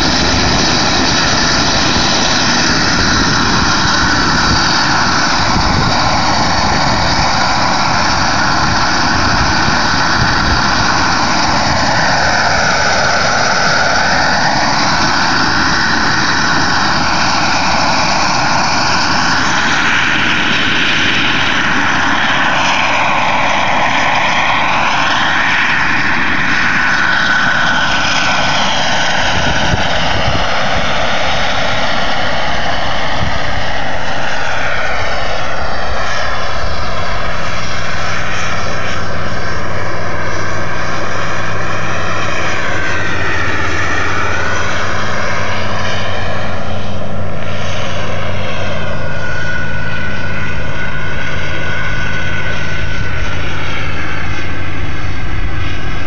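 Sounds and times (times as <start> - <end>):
model helicopter engine whine: 0.0 - 56.0
rotor noise: 0.0 - 56.0.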